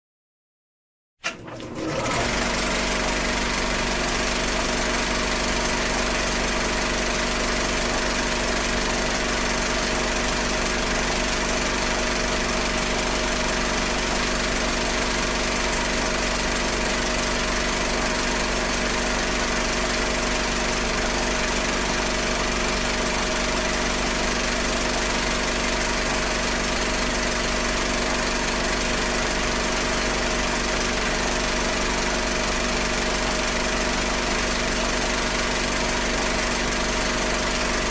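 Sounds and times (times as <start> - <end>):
film projector running: 1.2 - 37.9.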